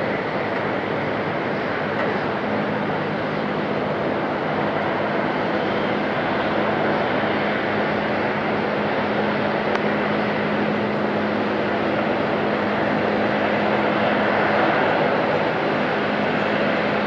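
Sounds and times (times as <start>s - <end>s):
jet engines in reverse thrust: 0.0s - 17.0s.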